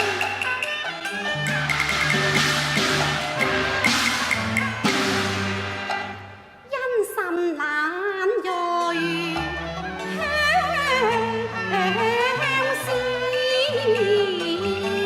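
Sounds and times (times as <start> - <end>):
opera music with ornamented melody: 0.0 - 15.0.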